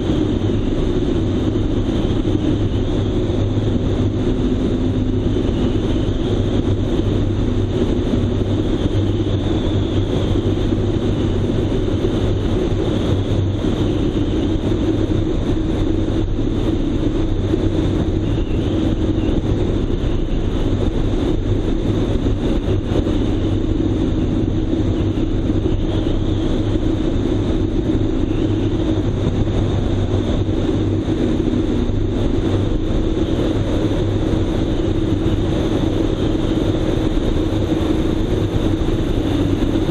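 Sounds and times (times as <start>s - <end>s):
airplane engine and propeller droning: 0.0s - 39.9s
wind noise: 0.0s - 39.9s.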